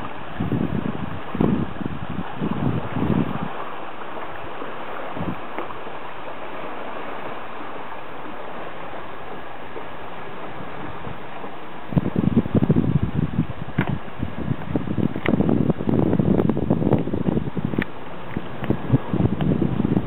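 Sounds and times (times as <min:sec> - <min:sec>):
outdoor wind hiss: 0:00.0 - 0:20.0
wind rumbling on microphone: 0:00.0 - 0:20.0.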